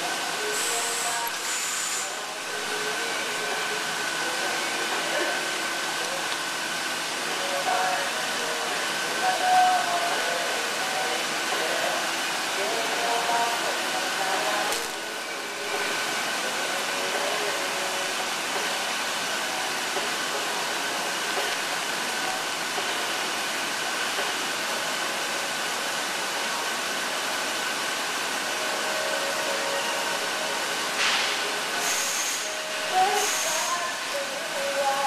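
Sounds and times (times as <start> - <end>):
thin steady whine: 0.0 - 35.0
workshop machinery drone: 0.0 - 35.0.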